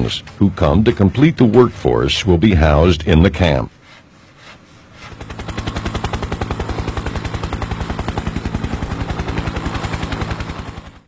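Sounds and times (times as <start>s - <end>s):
helicopter rotor chopping: 0.0s - 3.8s, 4.4s - 11.0s.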